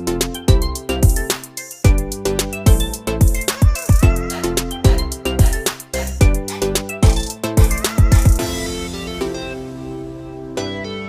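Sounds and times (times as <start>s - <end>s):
instrumental music with drum beat: 0.0s - 10.4s.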